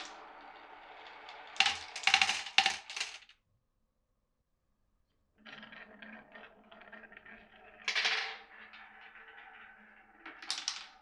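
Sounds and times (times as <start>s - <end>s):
marble rolling on wooden track: 0.0s - 3.3s, 5.4s - 11.0s.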